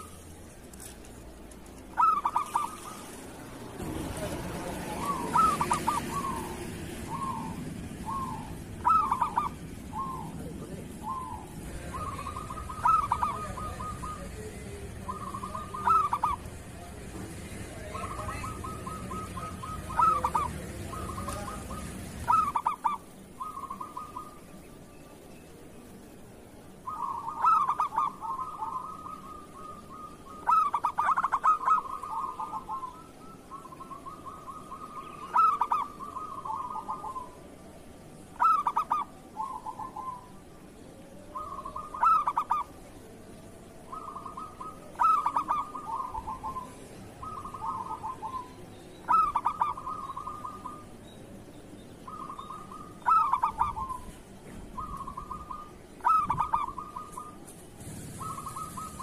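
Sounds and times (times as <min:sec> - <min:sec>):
doves cooing with trills: 0:00.0 - 0:59.0.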